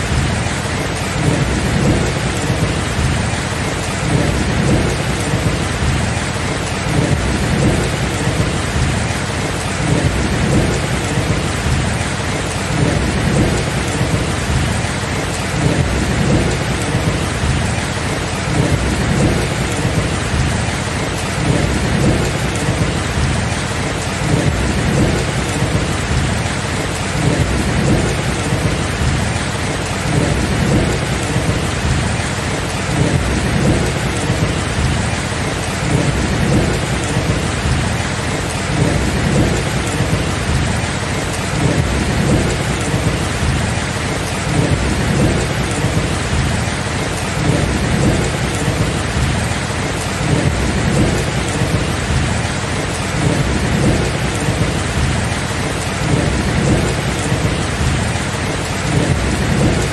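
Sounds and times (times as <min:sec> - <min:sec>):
low rumbling thunder: 0:00.0 - 0:59.9
steady rain: 0:00.0 - 0:59.9.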